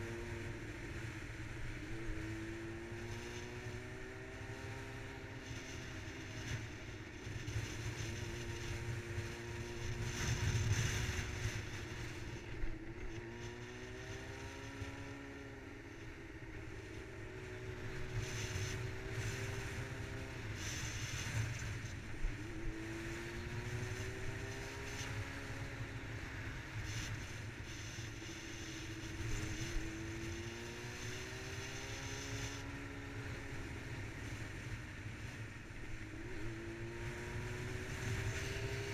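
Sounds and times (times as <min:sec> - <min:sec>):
motorcycle engine accelerating: 0:00.0 - 0:38.9
wind rumble on microphone: 0:00.0 - 0:38.9.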